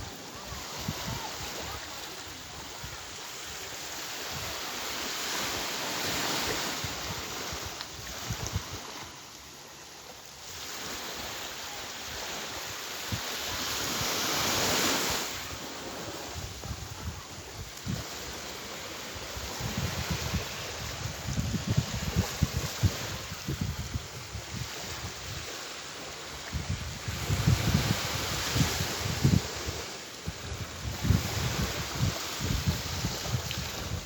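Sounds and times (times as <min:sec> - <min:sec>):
wind buffeting microphone: 0:00.0 - 0:09.2, 0:13.0 - 0:25.6, 0:26.2 - 0:34.0
ocean waves washing in: 0:00.0 - 0:34.0.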